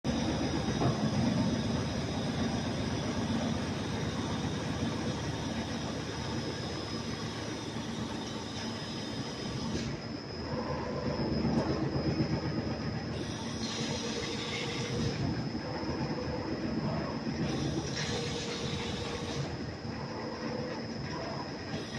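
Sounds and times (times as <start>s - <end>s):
machine whirring with high whine: 0.0s - 21.9s.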